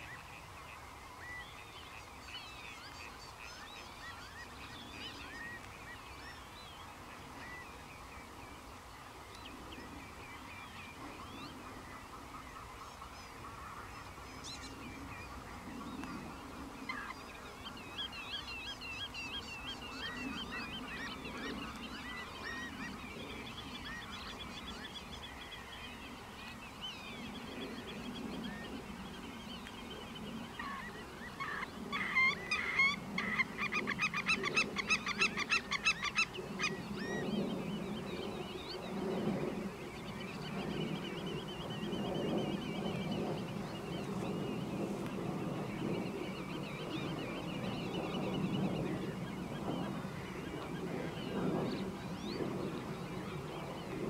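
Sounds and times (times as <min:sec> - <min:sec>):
birds chirping: 0:00.0 - 0:54.0
rapidly repeated bird calls: 0:00.0 - 0:54.0.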